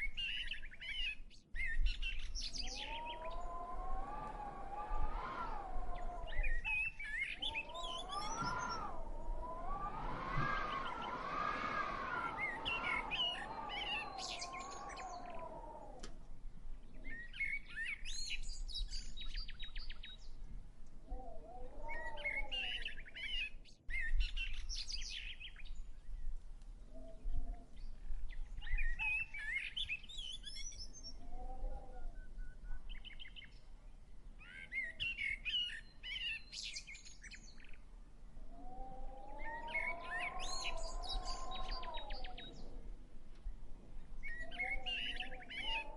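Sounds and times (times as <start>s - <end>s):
lower rising and falling bird tones: 0.0s - 45.9s
songbirds chirping: 0.0s - 45.9s.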